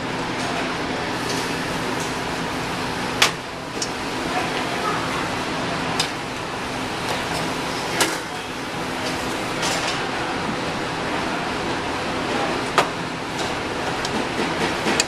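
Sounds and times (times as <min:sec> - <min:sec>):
room ventilation hum: 0:00.0 - 0:15.0.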